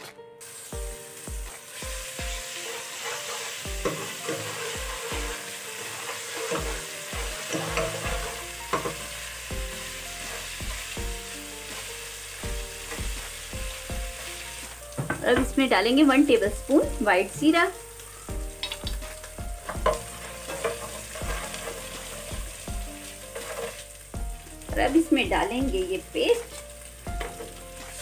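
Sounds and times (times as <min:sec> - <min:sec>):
paste sizzling in hot oil: 0:00.4 - 0:28.0.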